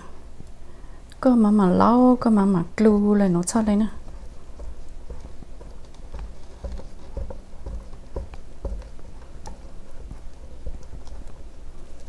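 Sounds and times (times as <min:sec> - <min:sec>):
spatula stirring sticky batter: 0:01.6 - 0:12.0.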